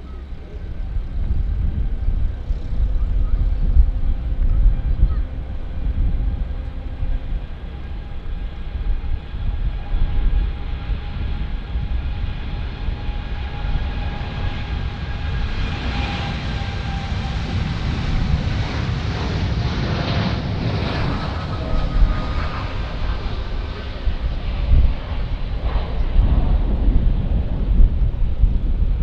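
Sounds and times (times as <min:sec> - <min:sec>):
jet engines whining: 0:00.0 - 0:28.9
low rumble: 0:00.0 - 0:29.0.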